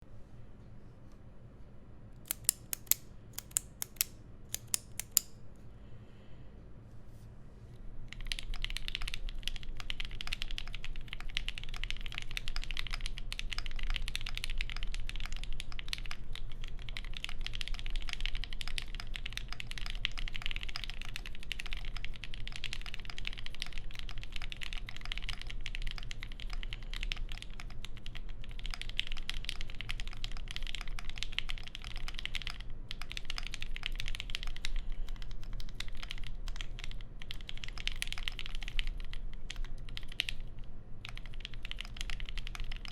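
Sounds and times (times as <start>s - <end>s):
fast typing on mechanical keyboard: 8.1s - 42.9s.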